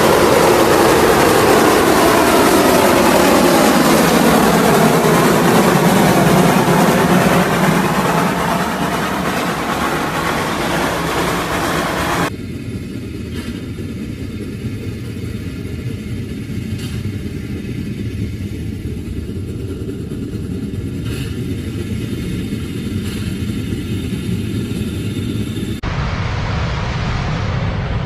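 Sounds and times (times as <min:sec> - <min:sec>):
muffled train rumble: 0:00.0 - 0:28.0.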